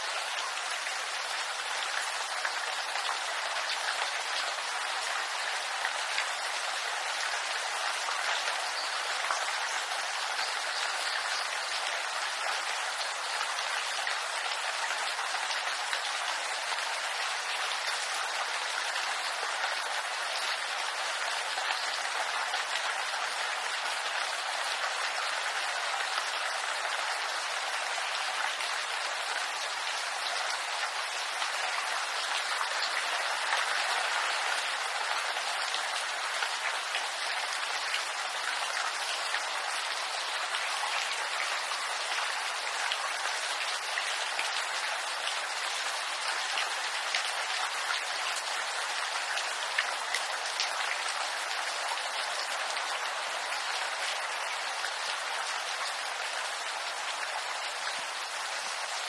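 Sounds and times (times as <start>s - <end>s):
rain on bamboo: 0.0s - 59.0s.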